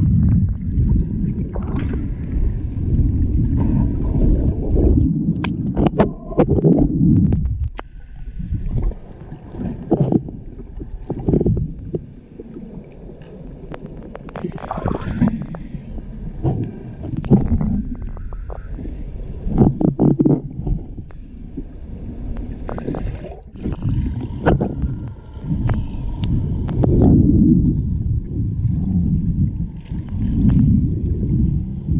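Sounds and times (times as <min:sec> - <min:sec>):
muffled water sloshing and gurgling: 0:00.0 - 0:31.9.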